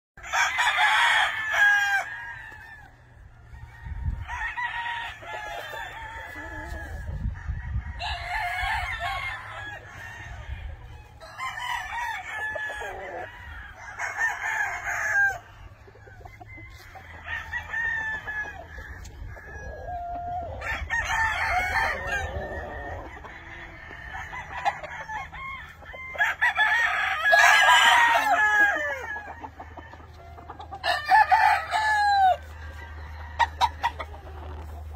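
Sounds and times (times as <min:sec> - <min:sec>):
roosters crowing: 0:00.2 - 0:34.9
chickens clucking: 0:00.4 - 0:34.9.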